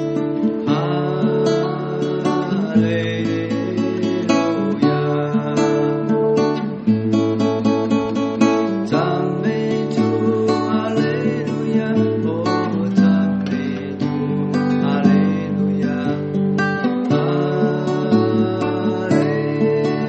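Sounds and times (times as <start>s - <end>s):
acoustic guitar playing hymn: 0.0s - 20.0s.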